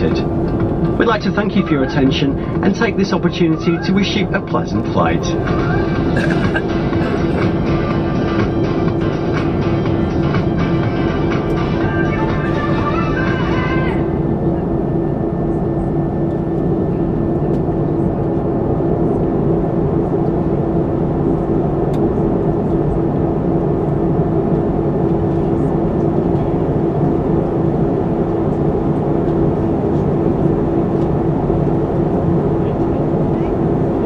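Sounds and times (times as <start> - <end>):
airplane cabin engine rumble: 0.0 - 34.0.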